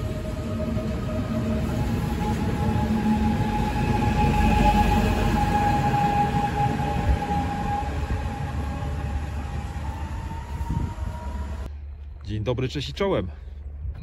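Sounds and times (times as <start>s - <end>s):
train wheels rumbling on rails: 0.0s - 11.7s
electric train whine: 0.0s - 12.2s.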